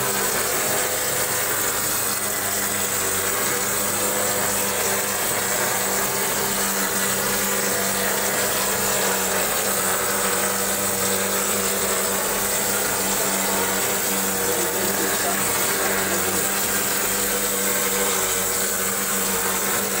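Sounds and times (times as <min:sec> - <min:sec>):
motor hum: 0:00.0 - 0:20.0
spray hissing: 0:00.0 - 0:20.0.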